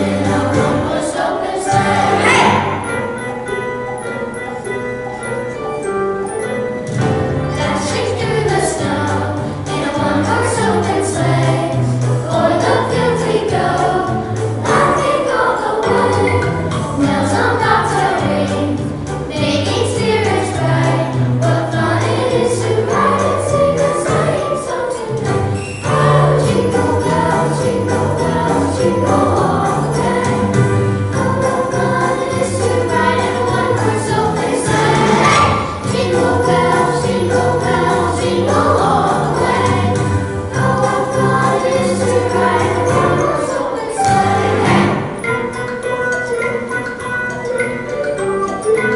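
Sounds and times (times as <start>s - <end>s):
choir singing: 0.0s - 6.6s, 7.4s - 47.9s
choir singing a holiday song: 0.0s - 48.9s.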